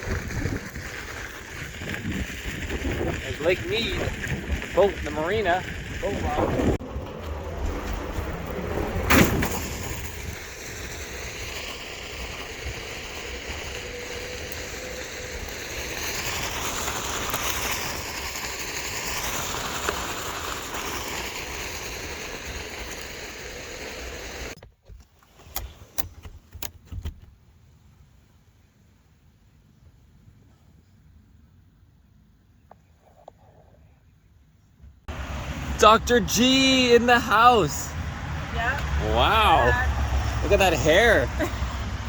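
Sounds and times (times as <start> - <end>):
vehicle wind and road noise: 0.0 - 30.4, 34.4 - 42.0.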